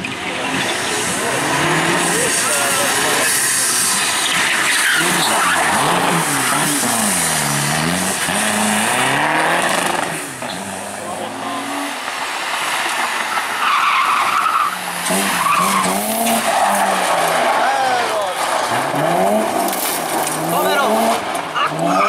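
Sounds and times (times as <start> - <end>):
rally car engines revving: 0.0 - 22.0
tyre squealing: 0.5 - 11.9, 13.2 - 22.0.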